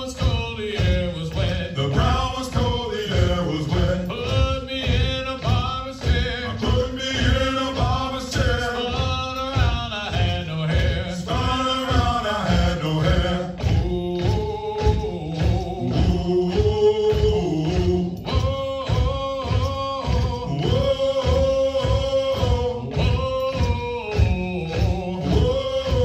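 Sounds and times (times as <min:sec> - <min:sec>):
men chanting a marching cadence: 0:00.0 - 0:26.0
steady low beat: 0:00.0 - 0:26.0.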